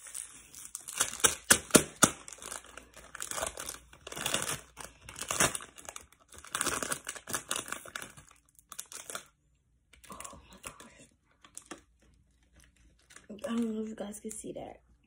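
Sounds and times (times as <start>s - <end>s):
plastic chip bag crinkling: 0.0s - 14.6s.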